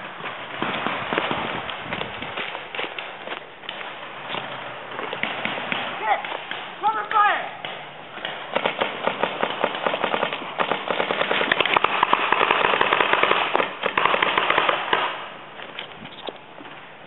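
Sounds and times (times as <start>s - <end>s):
paintball markers firing rapidly: 0.6s - 15.2s.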